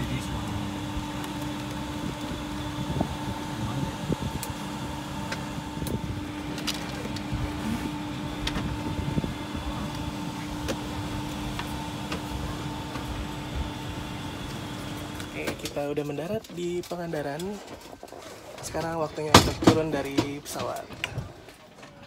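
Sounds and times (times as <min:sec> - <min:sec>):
mechanical hum with held tones: 0:00.0 - 0:22.0.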